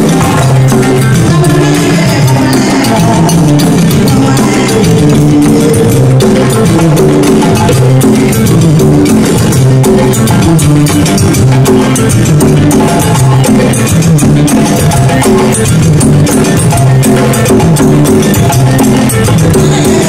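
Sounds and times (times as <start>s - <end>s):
electric bass line: 0.0s - 20.0s.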